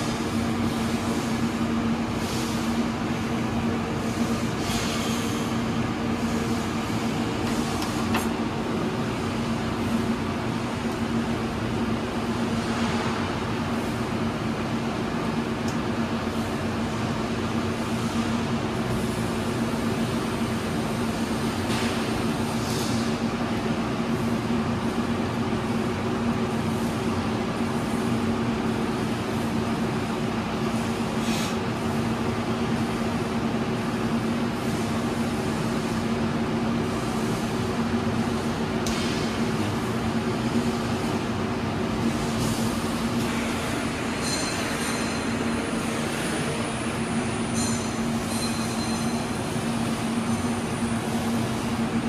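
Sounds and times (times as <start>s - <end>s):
equipment humming: 0.0s - 52.0s.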